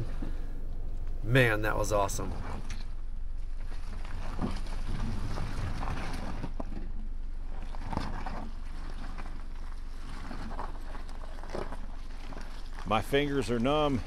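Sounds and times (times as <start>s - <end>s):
car engine low hum: 0.0s - 14.0s
tyres squelching over mud: 0.0s - 14.0s.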